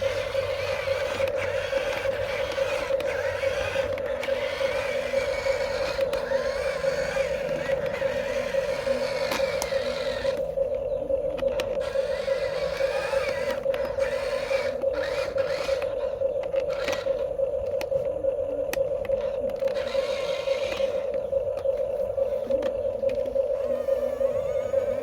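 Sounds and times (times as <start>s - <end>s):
toy excavator motors whining: 0.0s - 25.0s.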